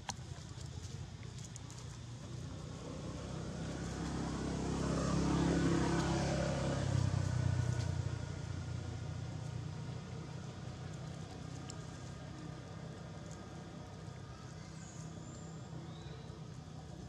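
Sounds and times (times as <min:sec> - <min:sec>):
vehicle passing by: 0:01.4 - 0:17.0.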